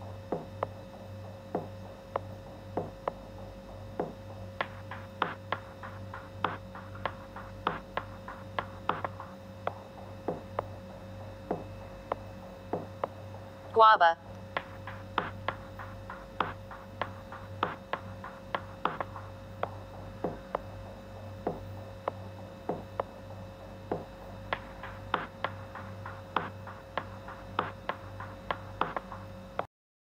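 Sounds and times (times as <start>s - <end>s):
low steady hum: 0.0s - 29.7s.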